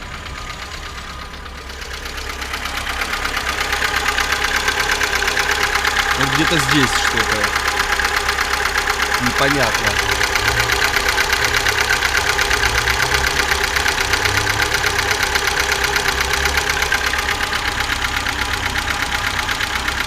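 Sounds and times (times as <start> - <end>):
engine idling with clatter: 0.0 - 20.0.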